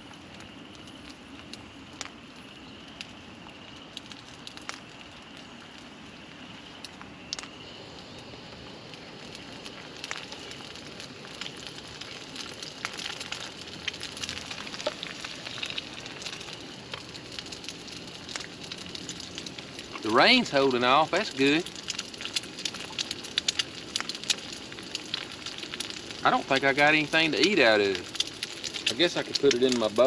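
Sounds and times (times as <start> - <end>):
egg sizzling in oil: 0.0 - 30.0.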